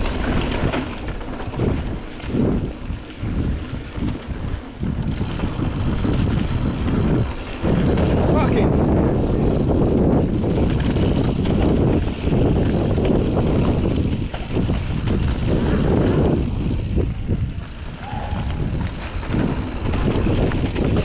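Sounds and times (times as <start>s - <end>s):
bike tyre roar: 0.0s - 21.0s
mountain bike rattles: 0.0s - 21.0s
wind on camera microphone: 0.0s - 21.0s.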